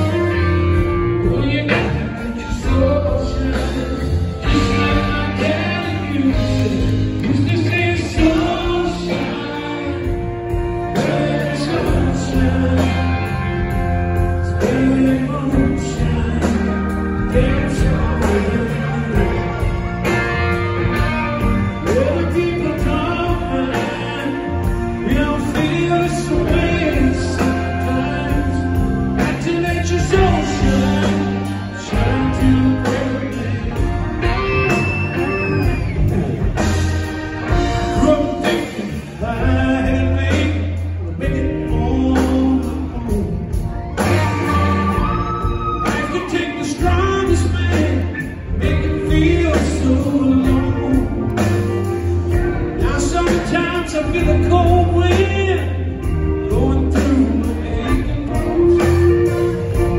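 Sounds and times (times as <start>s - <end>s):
live blues-rock band playing: 0.0s - 59.9s
man singing: 0.0s - 59.9s.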